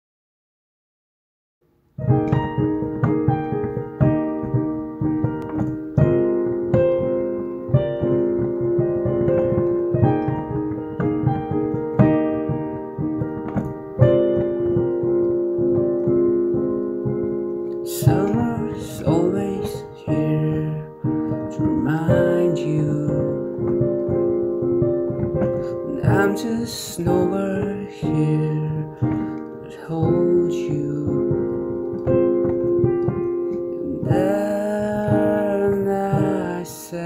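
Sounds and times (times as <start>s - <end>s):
piano chords: 1.6s - 37.0s.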